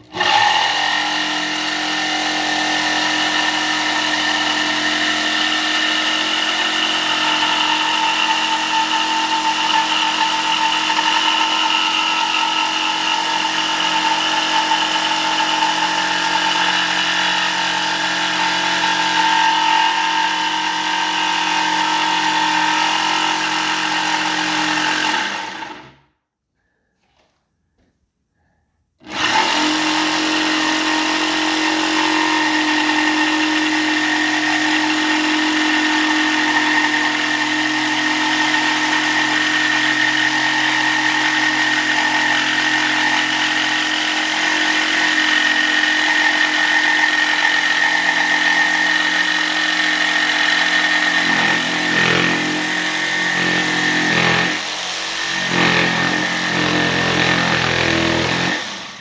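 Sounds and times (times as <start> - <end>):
electric jigsaw cutting: 0.0 - 26.0, 29.0 - 59.0.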